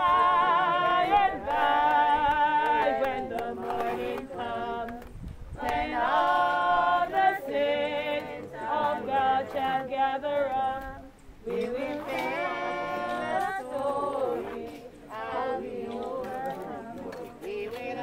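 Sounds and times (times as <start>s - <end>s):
group singing unaccompanied: 0.0s - 18.0s.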